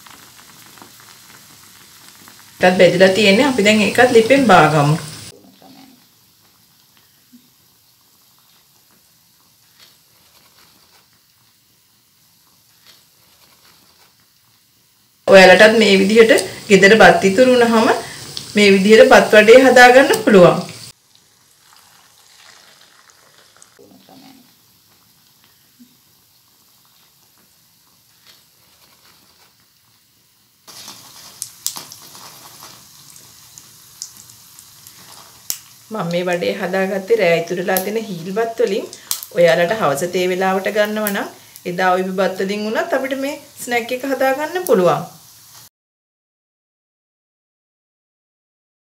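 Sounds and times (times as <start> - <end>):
hot oil sizzling and crackling: 0.0 - 45.7.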